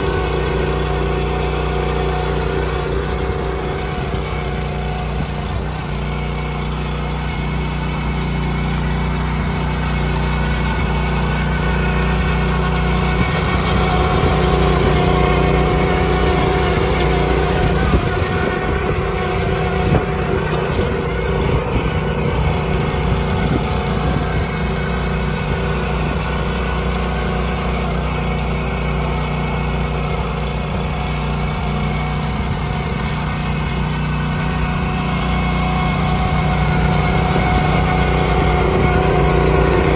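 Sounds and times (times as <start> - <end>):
tiller engine running: 0.0 - 39.9
tines churning dry soil: 0.0 - 39.9.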